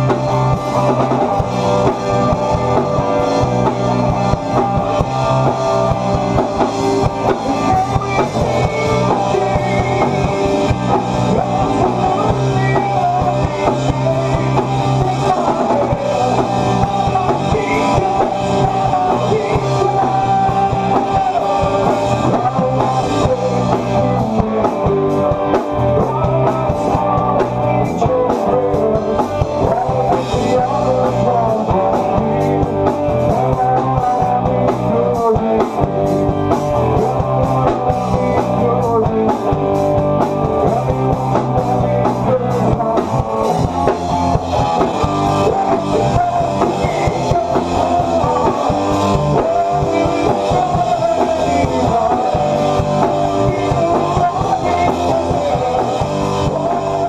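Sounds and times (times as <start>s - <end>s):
drum kit playing: 0.0s - 57.0s
loud electric guitars: 0.0s - 57.0s.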